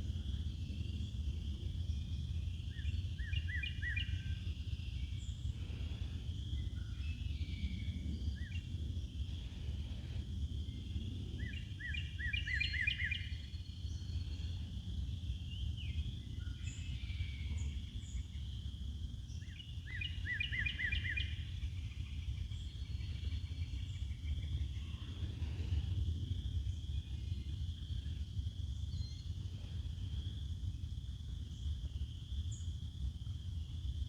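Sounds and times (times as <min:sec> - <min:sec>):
steady low rumble: 0:00.0 - 0:19.4, 0:21.5 - 0:33.8
faint bird chirps: 0:00.5 - 0:18.6, 0:19.3 - 0:30.4.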